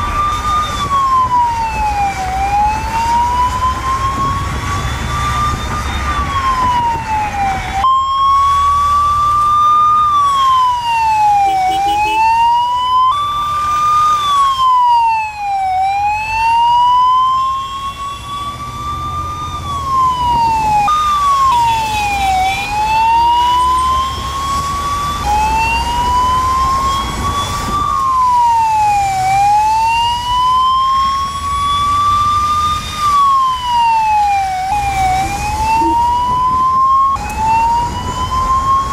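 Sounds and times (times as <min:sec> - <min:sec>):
emergency siren wailing: 0:00.0 - 0:38.9
low traffic rumble: 0:00.0 - 0:38.9.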